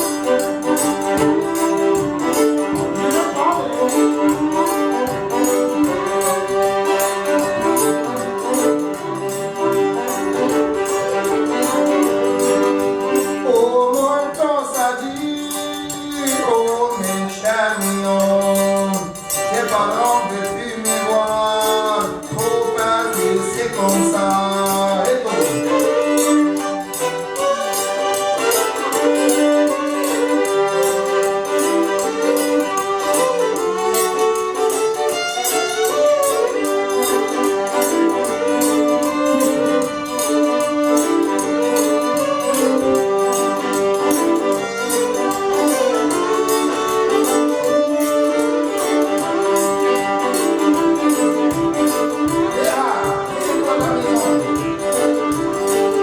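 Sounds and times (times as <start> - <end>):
person singing: 0.0 - 11.8, 13.0 - 33.8, 35.6 - 56.0
fiddle and accordion tune: 0.0 - 56.0.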